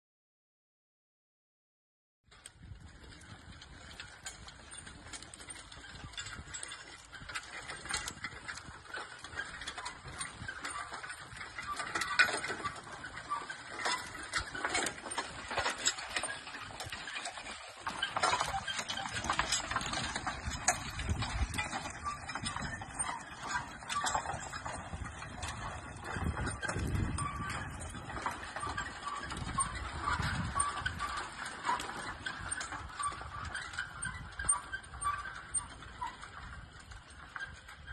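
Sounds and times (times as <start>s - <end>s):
metal harrow and harness rattling: 2.3s - 37.9s.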